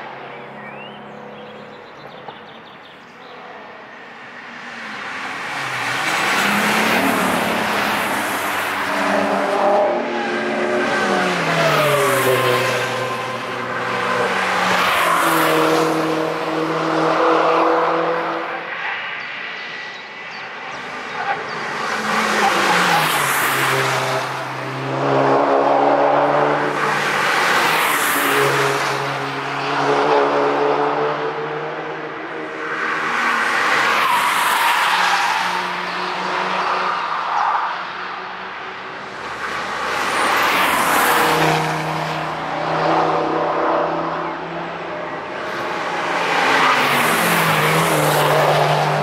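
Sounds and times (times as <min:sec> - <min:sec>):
race cars passing at speed: 0:00.0 - 0:49.0.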